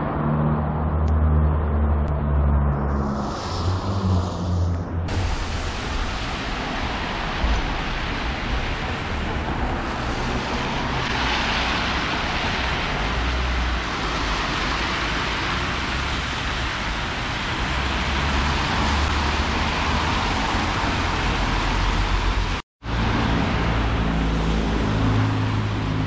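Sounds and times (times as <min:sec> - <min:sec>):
tyres hissing on wet road: 0:02.9 - 0:26.0.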